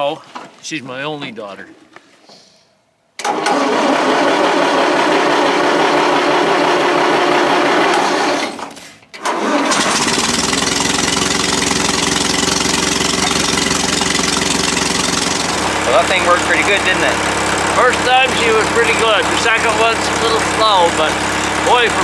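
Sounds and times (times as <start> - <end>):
tractor engine turning over and running: 3.2 - 22.0.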